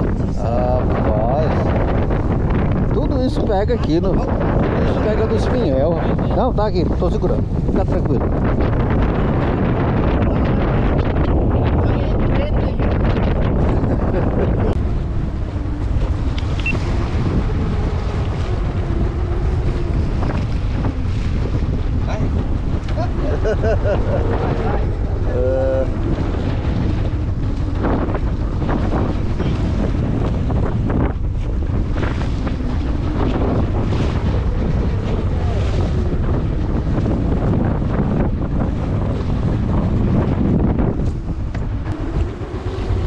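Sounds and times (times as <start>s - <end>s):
boat engine running: 0.0s - 43.0s
wind buffeting microphone: 0.0s - 43.0s.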